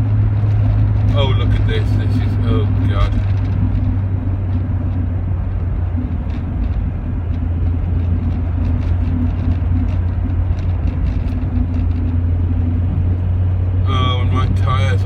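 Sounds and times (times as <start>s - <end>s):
car engine hum inside cabin: 0.0s - 15.0s
road noise: 0.0s - 15.0s.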